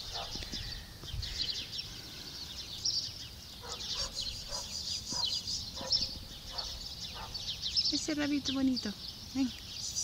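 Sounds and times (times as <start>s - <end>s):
songbirds twittering: 0.0s - 10.0s.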